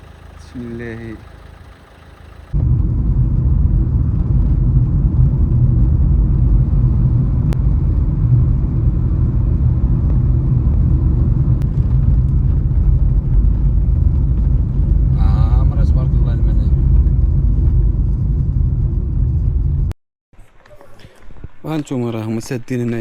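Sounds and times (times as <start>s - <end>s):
car engine road and wind noise: 0.0s - 20.0s.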